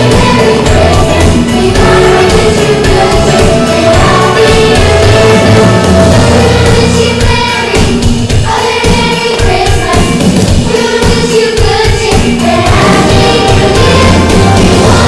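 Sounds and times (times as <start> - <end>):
choir singing: 0.0 - 15.0
instrumental accompaniment with beat: 0.0 - 15.0.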